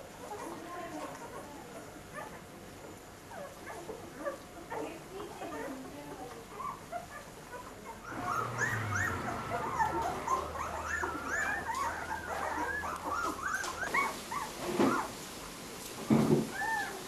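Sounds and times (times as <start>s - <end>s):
puppies whimpering and squeaking: 0.0s - 15.2s, 16.4s - 17.0s.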